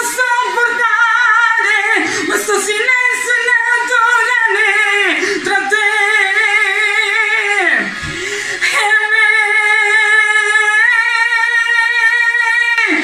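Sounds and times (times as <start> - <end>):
woman singing a slow pop ballad: 0.0 - 13.0.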